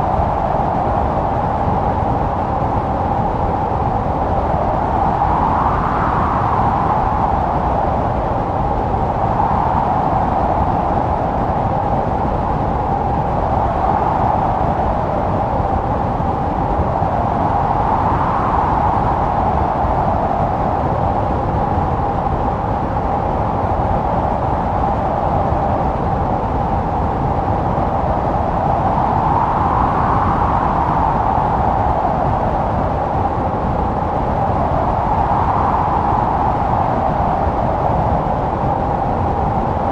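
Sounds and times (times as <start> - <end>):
blizzard wind moaning: 0.0 - 39.9.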